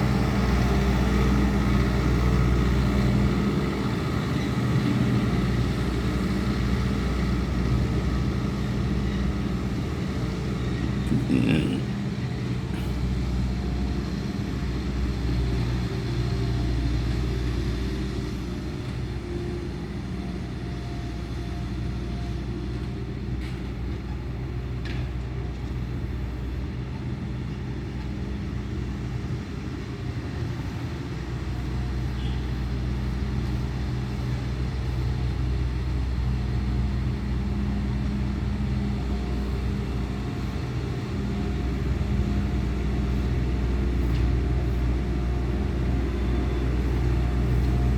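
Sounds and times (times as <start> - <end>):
diesel loader engine running: 0.0 - 47.9.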